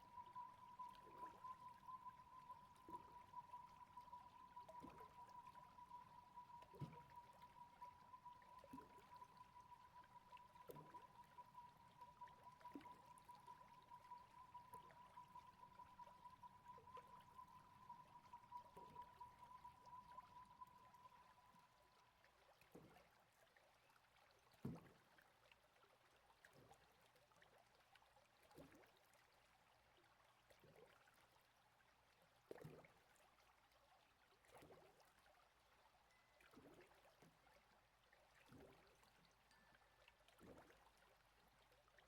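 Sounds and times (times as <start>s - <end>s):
faint flowing water: 0.0s - 42.0s
soft water splash or drip: 0.0s - 42.0s.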